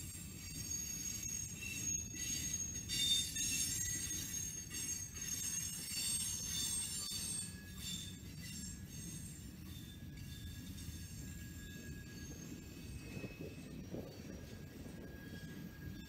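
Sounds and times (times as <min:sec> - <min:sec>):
train wheels rumbling on rails: 0:00.0 - 0:16.0
wheels squealing: 0:00.0 - 0:16.0.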